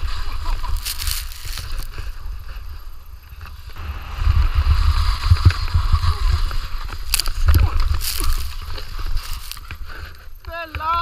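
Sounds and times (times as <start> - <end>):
wind buffeting microphone: 0.0 - 10.5
skis hissing over snow: 0.0 - 11.0.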